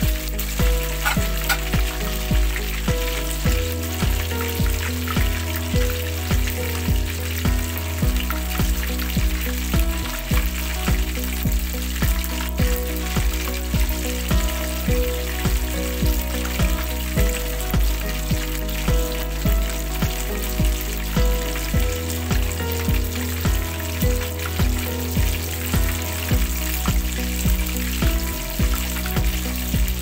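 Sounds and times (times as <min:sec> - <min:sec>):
background music with beat: 0:00.0 - 0:30.0
fish sizzling in hot oil: 0:00.0 - 0:30.0.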